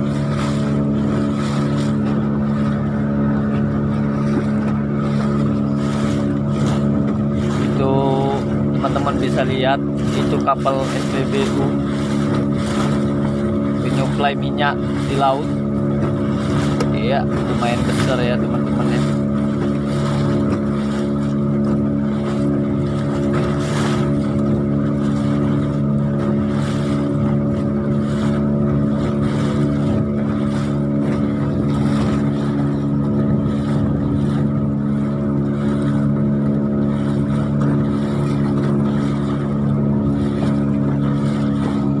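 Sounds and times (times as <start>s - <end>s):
small boat engine running: 0.0s - 42.0s
water splashing along hull: 0.0s - 42.0s.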